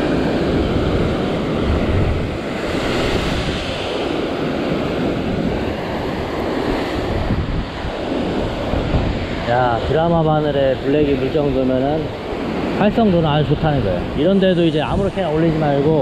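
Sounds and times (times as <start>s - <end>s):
ocean surf breaking on rocks: 0.0s - 16.0s
wind buffeting microphone: 0.0s - 16.0s.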